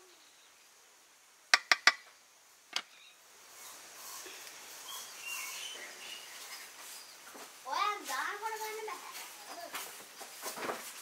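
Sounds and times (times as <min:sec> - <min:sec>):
birds chirping: 0:01.6 - 0:10.4.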